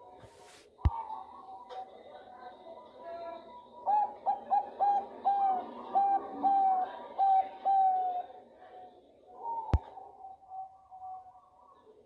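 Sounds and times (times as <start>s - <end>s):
dove cooing: 0.8s - 12.0s.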